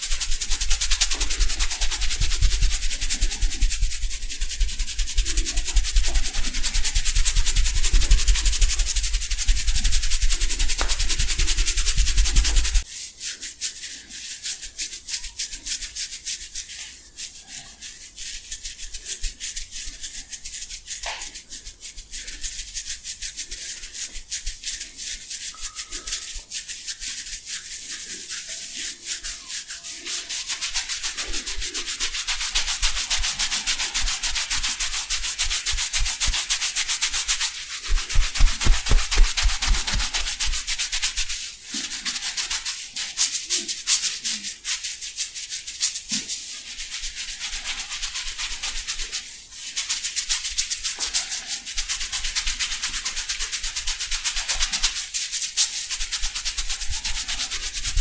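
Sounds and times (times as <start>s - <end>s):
hands rubbing oiled hair: 0.0s - 58.0s.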